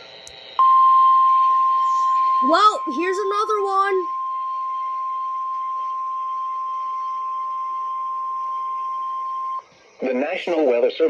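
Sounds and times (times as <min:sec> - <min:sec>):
weather radio alarm tone: 0:00.6 - 0:09.6.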